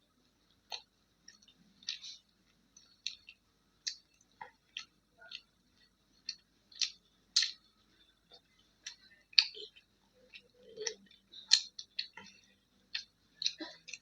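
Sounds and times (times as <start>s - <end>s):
person chewing wet smacks: 0.7s - 7.7s, 8.3s - 14.0s.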